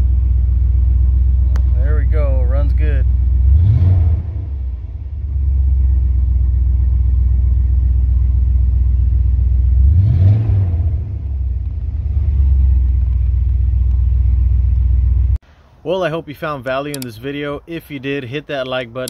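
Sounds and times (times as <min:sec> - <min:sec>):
pickup engine idling and revving: 0:00.0 - 0:15.4.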